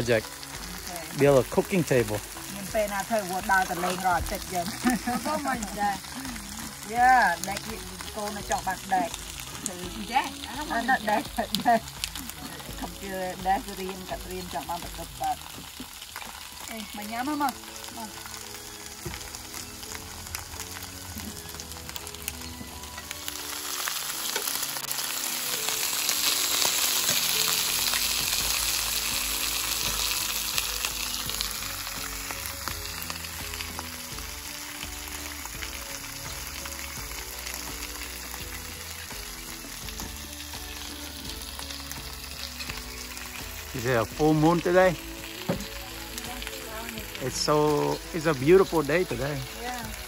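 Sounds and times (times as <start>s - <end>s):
vegetables sizzling in grill pan: 0.0s - 50.0s.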